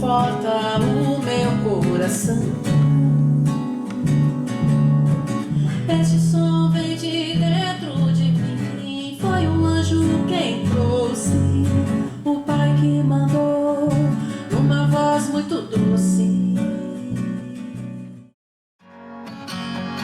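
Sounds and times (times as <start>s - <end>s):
person singing: 0.0s - 4.8s, 5.5s - 17.8s
strummed acoustic guitar: 0.0s - 20.0s.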